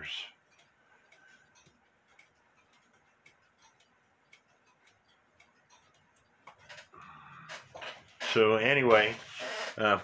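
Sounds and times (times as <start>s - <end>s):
mechanical clock ticking: 0.0s - 10.0s.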